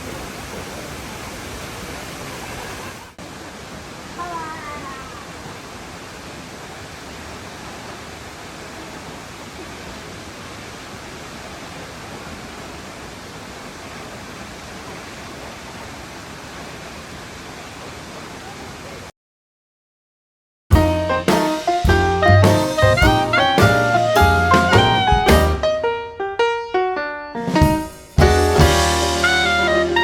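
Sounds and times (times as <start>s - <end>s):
waterfall rushing: 0.0s - 19.1s, 21.0s - 26.0s, 28.2s - 30.0s.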